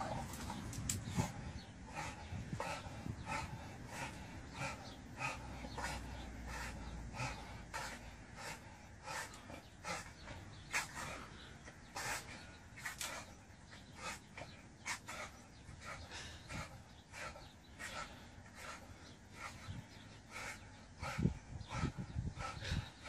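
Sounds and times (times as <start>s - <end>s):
dog panting and huffing: 0.0s - 23.0s.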